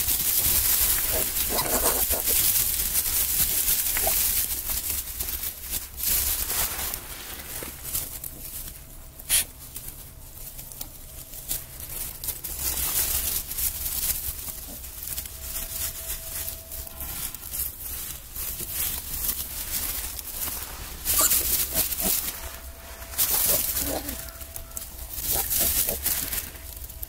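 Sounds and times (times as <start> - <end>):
faint steady hum: 0.0 - 27.0
piglets shuffling: 0.0 - 27.0.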